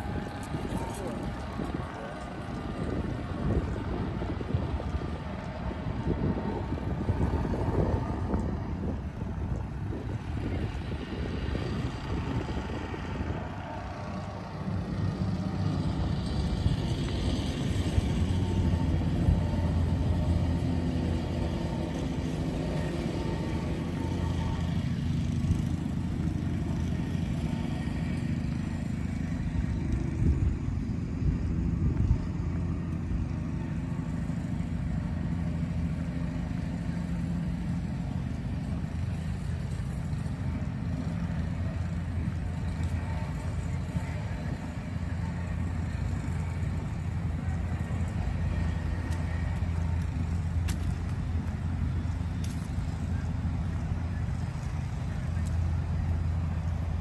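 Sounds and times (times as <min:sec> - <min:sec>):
cars passing on street: 0:00.0 - 0:57.0
low traffic rumble: 0:00.0 - 0:57.0.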